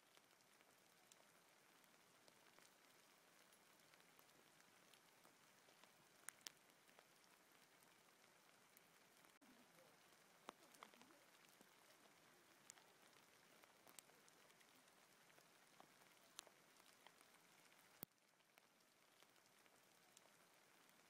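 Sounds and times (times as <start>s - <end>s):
hail hissing on forest floor: 0.0s - 21.0s
hailstones ticking: 0.0s - 21.0s.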